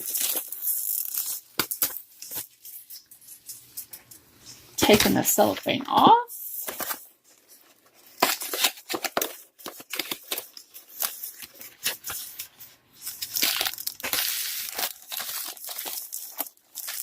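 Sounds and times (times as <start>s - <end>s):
cellophane tearing and crinkling: 0.0s - 3.9s, 6.5s - 17.0s.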